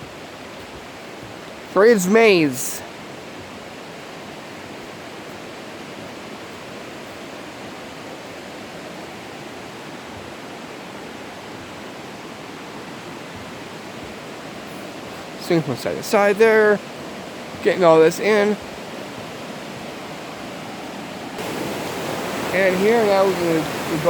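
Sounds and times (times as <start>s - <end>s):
creek water flowing: 0.0s - 24.0s.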